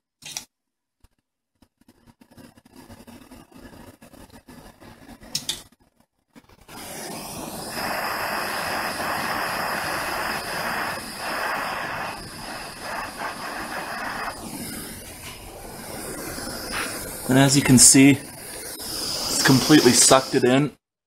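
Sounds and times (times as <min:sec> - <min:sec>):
gas torch flame hissing: 0:01.8 - 0:05.6, 0:06.4 - 0:20.7.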